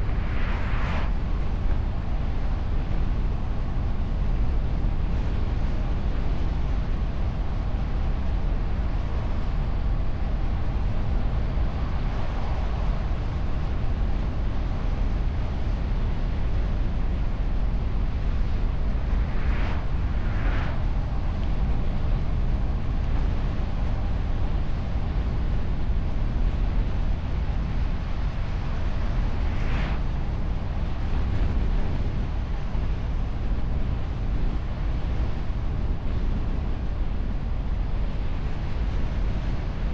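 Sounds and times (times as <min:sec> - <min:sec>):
car road rumble: 0:00.0 - 0:39.9
wind: 0:00.0 - 0:39.9.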